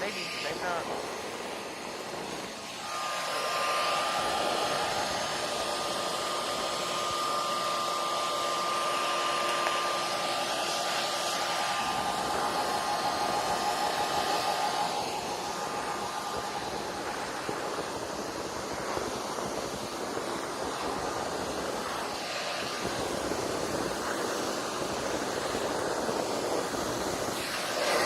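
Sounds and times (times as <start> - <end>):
shop vacuum running: 0.0 - 28.0.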